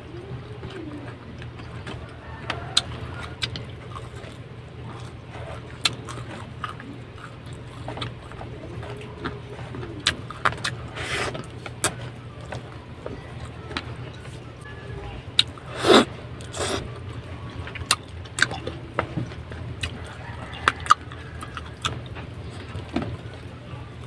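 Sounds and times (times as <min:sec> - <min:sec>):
steady low hum: 0:00.0 - 0:24.0
chewing crispy fried chicken: 0:00.1 - 0:24.0.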